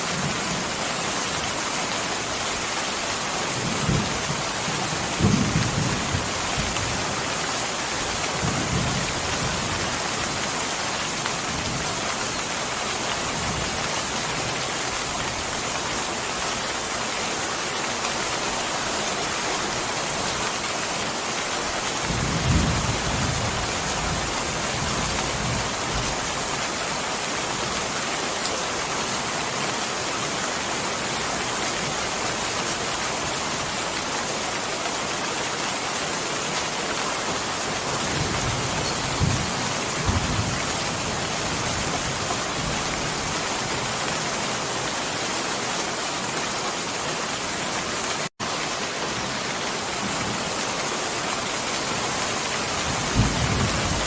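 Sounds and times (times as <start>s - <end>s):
dense rainfall: 0.0s - 54.0s.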